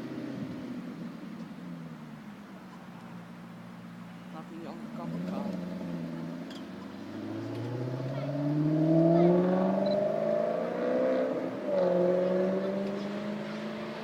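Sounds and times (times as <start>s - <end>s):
car exhaust accelerating: 0.0s - 14.0s.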